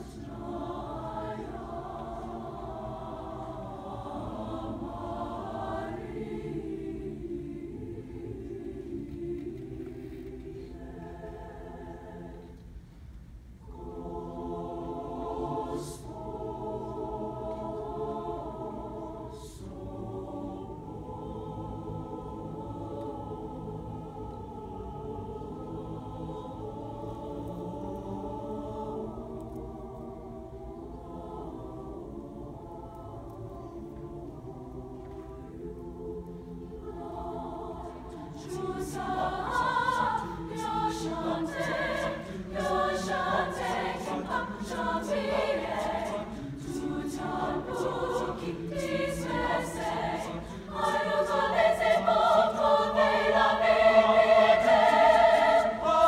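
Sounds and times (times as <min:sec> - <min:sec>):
mixed choir singing: 0:00.0 - 0:12.8, 0:13.6 - 0:56.0.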